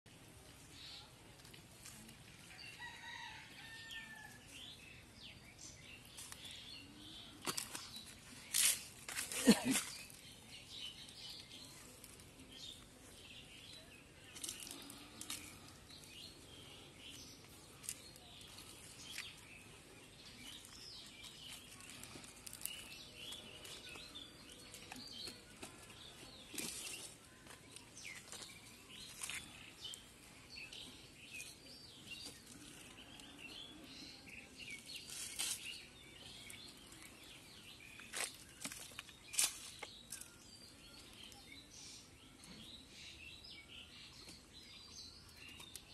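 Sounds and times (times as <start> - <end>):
small birds chirping: 0.1 - 45.9.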